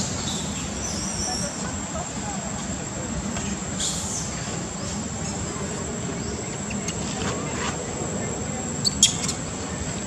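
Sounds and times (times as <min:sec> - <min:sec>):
low background murmur: 0:00.0 - 0:10.0.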